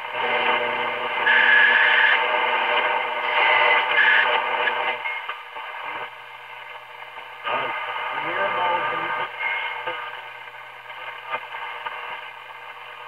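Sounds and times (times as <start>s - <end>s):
steady low hum: 0.0s - 13.0s
thin radio broadcast: 0.0s - 13.0s.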